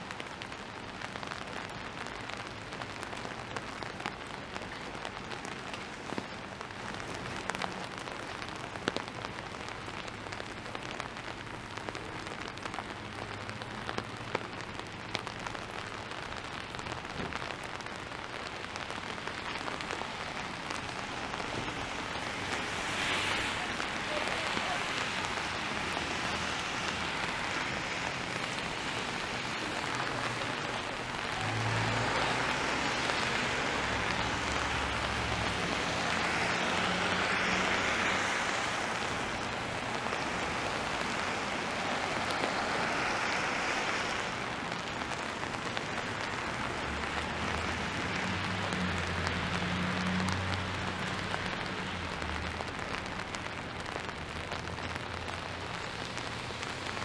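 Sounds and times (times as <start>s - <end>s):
steady rain on street: 0.0s - 57.0s
tyre hiss on wet road: 0.0s - 57.0s.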